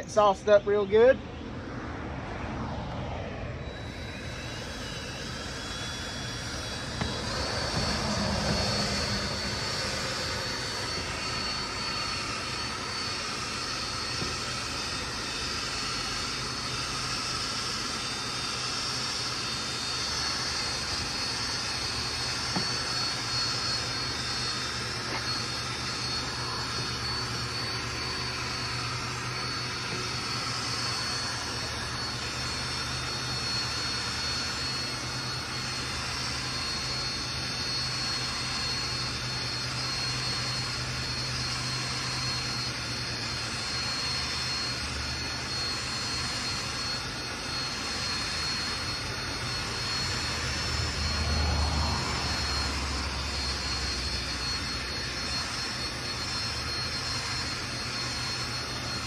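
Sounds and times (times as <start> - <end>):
cordless drill motor whine: 0.0 - 59.0.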